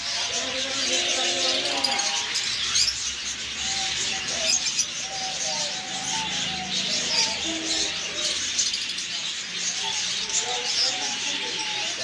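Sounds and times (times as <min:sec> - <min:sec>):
caged birds chirping and twittering: 0:00.0 - 0:12.0.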